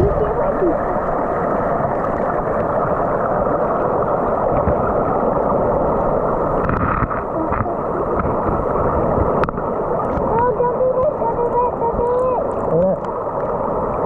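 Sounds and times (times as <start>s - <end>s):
creek water rushing: 0.0s - 14.0s
faint splashes: 0.0s - 14.0s.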